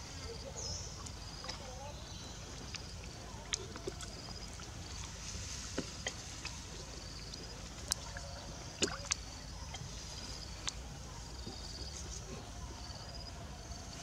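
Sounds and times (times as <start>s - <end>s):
water sloshing in plastic tub: 0.8s - 12.6s.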